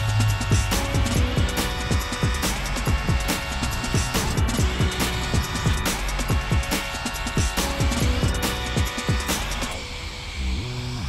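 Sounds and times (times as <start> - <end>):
electronic hip-hop beat: 0.0 - 9.9
sliding deep bass notes: 0.0 - 11.0.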